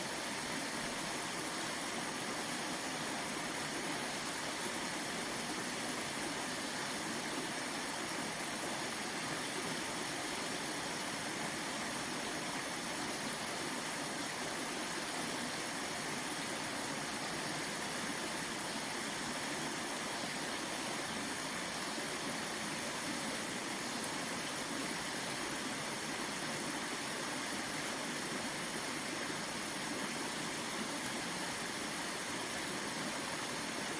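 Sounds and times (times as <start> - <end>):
waterfall and stream rushing: 0.0 - 33.9.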